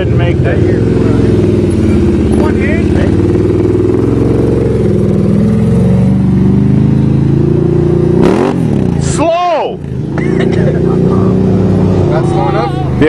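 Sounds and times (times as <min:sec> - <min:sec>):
atv engine at low revs: 0:00.0 - 0:13.0.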